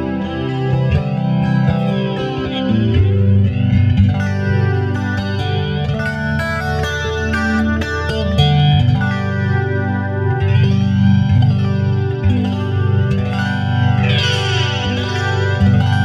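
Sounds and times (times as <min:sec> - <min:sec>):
clean electric guitar with chorus: 0:00.0 - 0:16.0.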